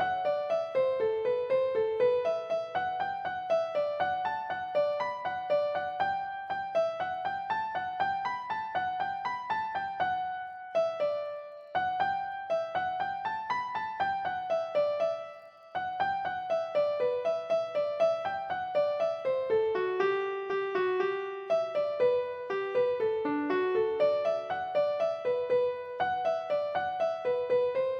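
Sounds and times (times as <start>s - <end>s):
piano melody: 0.0s - 27.9s.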